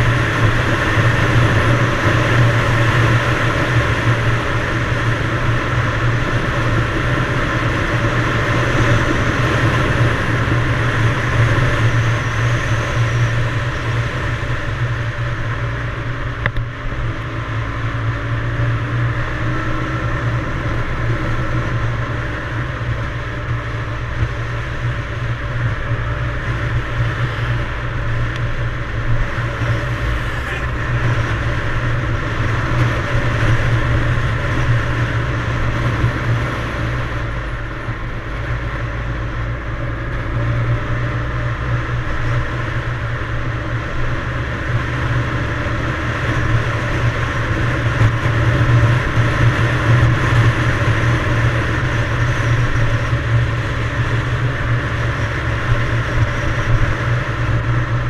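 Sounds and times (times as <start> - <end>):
steady rushing noise: 0.0 - 58.0
two-stroke motorcycle engine running: 0.0 - 58.0.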